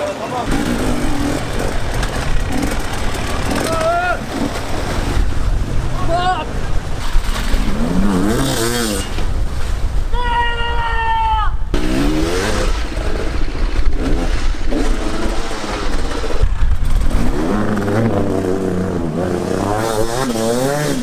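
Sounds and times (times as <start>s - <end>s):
dirt bike engines revving: 0.0s - 10.0s, 11.7s - 21.0s.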